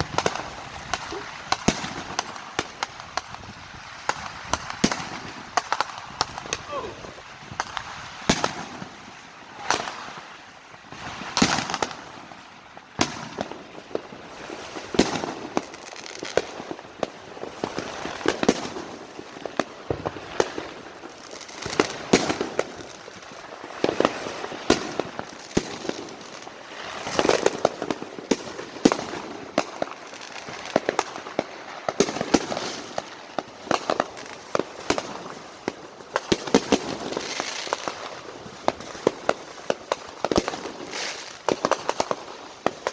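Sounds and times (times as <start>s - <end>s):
firework bangs: 0.0s - 12.4s, 13.0s - 42.9s
firecrackers crackling: 0.0s - 42.9s.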